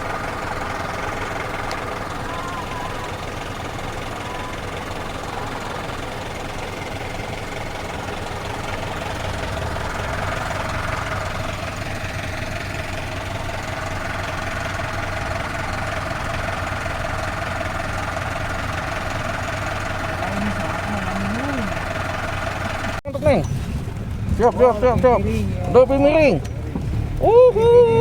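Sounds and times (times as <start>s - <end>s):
off-road vehicle engine running: 0.0s - 28.0s.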